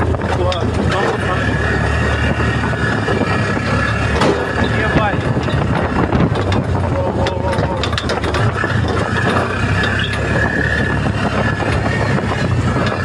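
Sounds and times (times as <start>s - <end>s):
rattling and clattering: 0.0s - 13.0s
vehicle engine running: 0.0s - 13.0s.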